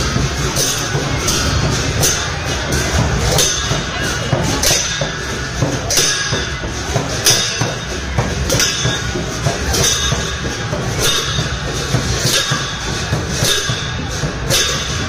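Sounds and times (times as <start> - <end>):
crowd din: 0.0 - 15.0
hand cymbals clashing: 0.0 - 15.0.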